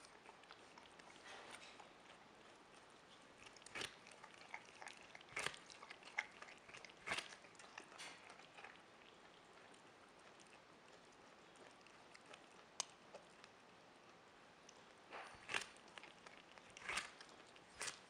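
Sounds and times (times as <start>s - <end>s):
capybara chewing crunches: 0.0s - 18.0s.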